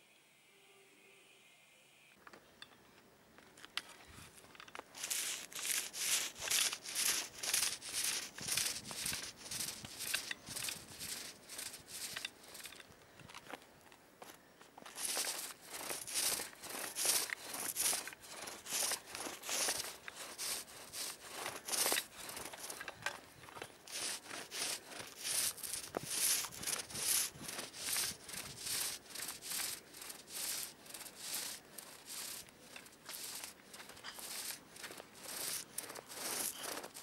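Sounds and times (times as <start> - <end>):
paint roller rubbing strokes: 4.2 - 12.8, 14.8 - 37.0.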